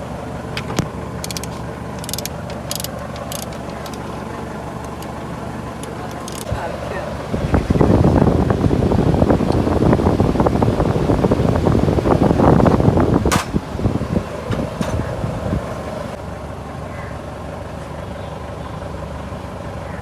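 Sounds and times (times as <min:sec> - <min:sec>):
car engine clattering: 0:00.0 - 0:16.5.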